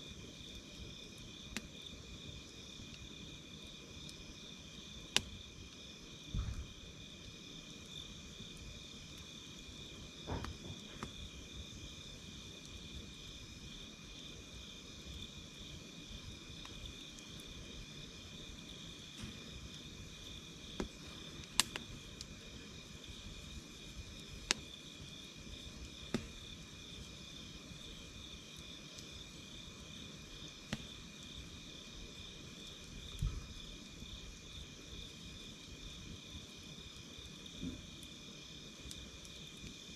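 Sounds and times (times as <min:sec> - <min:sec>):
night insects singing: 0:00.0 - 0:39.9
campfire crackling and popping: 0:00.1 - 0:39.9.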